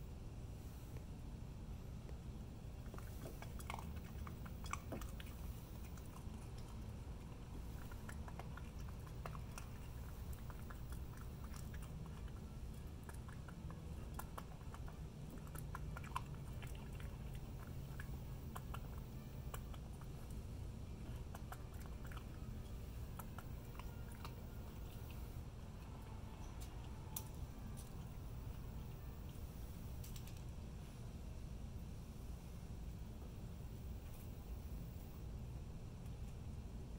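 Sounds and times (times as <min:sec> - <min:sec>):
low steady hum: 0:00.0 - 0:36.9
raccoon crunching kibble: 0:02.1 - 0:36.5.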